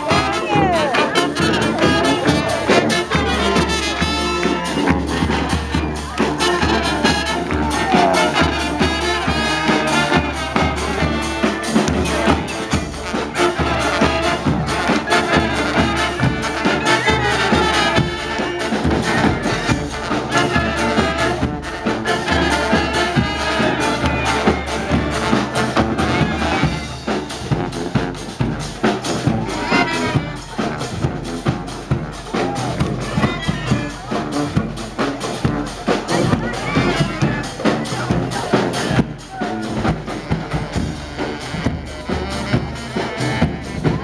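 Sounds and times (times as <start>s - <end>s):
steady drumbeat: 0.0s - 44.0s
trumpets and trombones: 0.0s - 44.0s.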